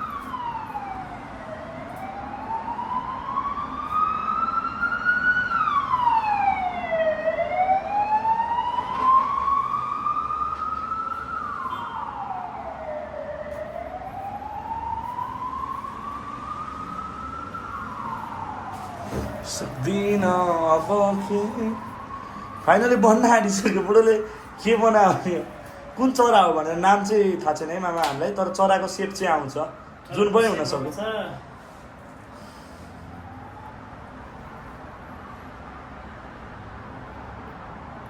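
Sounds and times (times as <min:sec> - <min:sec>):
emergency vehicle siren wailing: 0:00.0 - 0:38.0.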